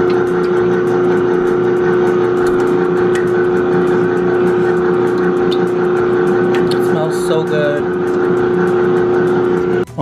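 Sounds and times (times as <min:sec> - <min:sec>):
stand mixer motor hum: 0:00.0 - 0:10.0.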